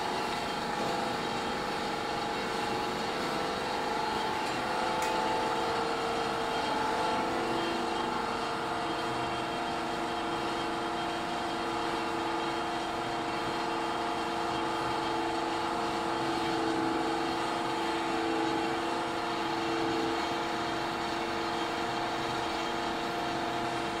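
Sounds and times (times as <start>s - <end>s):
extruder machine drone: 0.0s - 24.0s.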